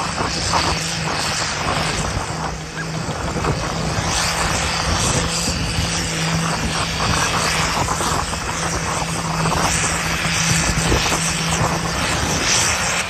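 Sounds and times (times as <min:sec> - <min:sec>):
large engine running at high revs: 0:00.0 - 0:13.0.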